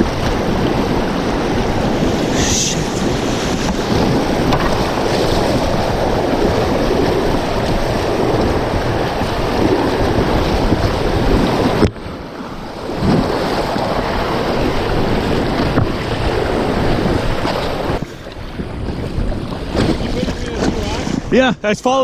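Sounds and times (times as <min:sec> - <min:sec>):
rushing whitewater: 0:00.0 - 0:18.4
wind buffeting microphone: 0:00.0 - 0:21.7.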